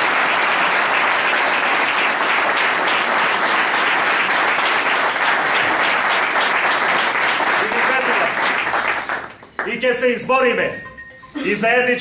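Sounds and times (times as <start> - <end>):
people clapping: 0.0 - 10.2.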